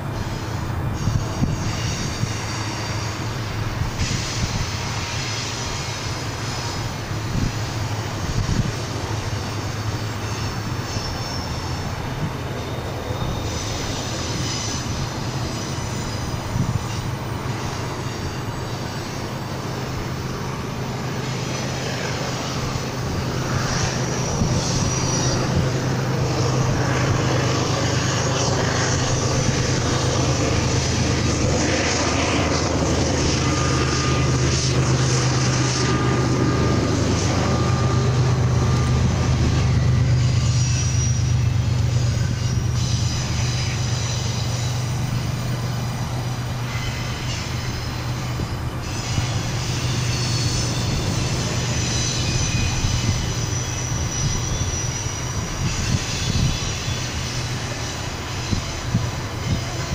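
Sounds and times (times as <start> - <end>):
diesel locomotive engine hum: 0.0 - 59.9
freight train rumbling: 0.0 - 59.9
steel wheels squealing: 0.0 - 59.9.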